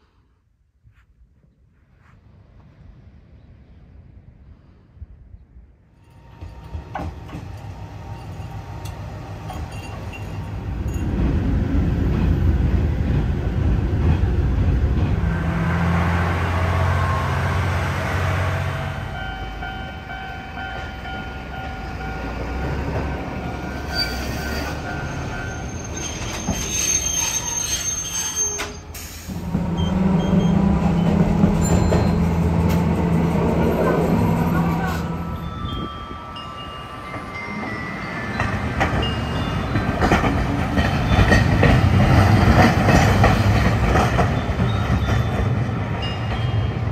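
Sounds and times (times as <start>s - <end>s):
train rumbling: 0.9s - 46.9s
tram humming on track: 2.2s - 46.9s.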